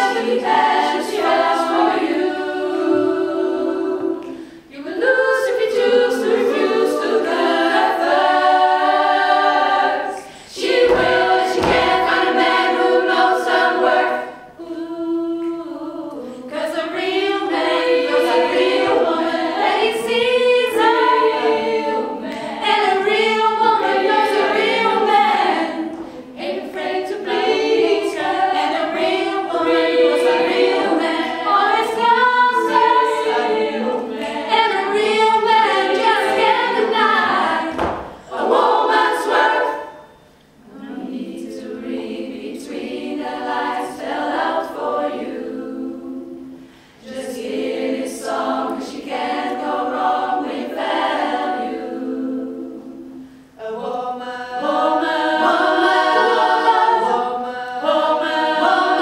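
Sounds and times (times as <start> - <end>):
women's a cappella group singing: 0.0 - 59.0.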